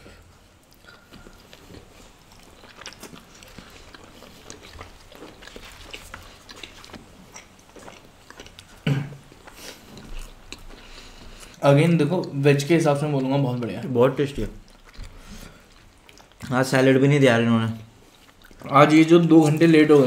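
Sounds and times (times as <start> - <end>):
people chewing food: 0.0 - 20.0.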